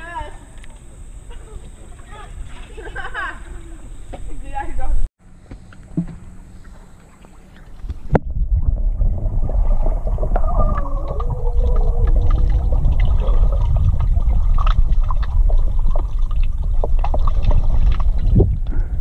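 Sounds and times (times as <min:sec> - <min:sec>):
underwater water sloshing: 0:00.0 - 0:04.8, 0:05.5 - 0:18.9.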